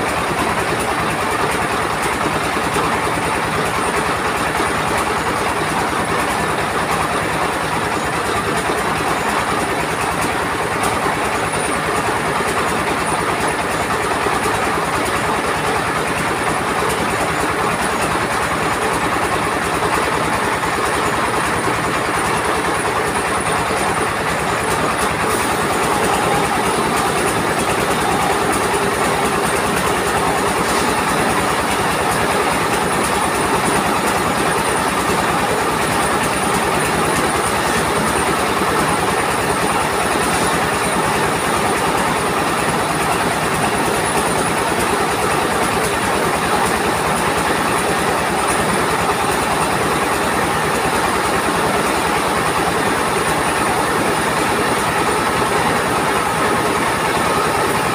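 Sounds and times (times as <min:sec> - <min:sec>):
rice mill engine din: 0:00.0 - 0:57.9
grain rattling through mill: 0:10.7 - 0:57.9.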